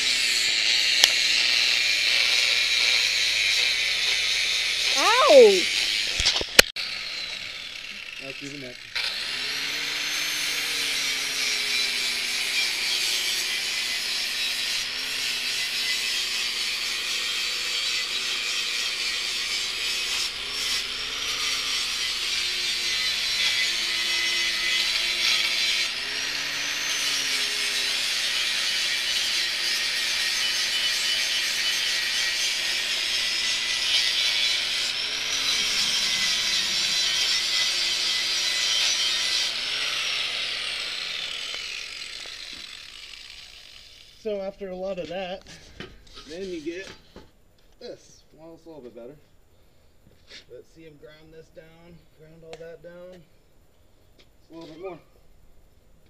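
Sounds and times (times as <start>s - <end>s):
power grinder grinding metal: 0.0s - 47.0s.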